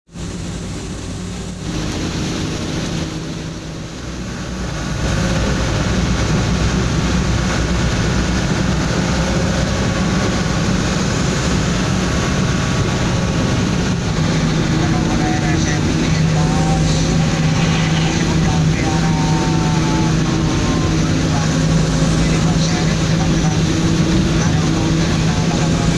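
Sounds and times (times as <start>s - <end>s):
heavy rain: 0.1s - 25.9s
road noise: 0.1s - 25.9s
truck engine drone: 0.1s - 25.9s.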